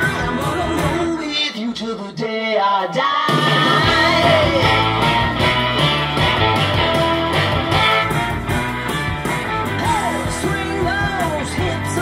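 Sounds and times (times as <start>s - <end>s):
rock and roll song through speakers: 0.0s - 12.0s.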